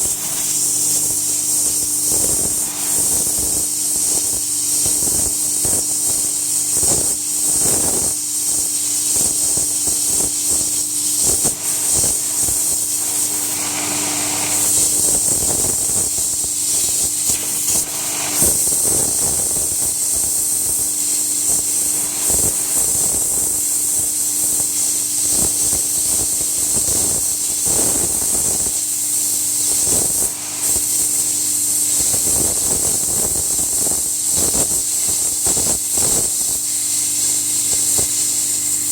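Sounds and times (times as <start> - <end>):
pressure washer spraying wood: 0.0 - 38.9.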